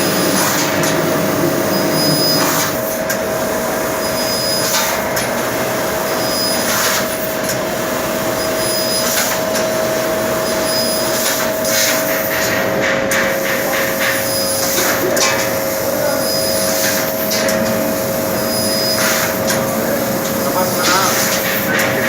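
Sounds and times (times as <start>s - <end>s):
laser cutting machine hissing: 0.0s - 22.0s.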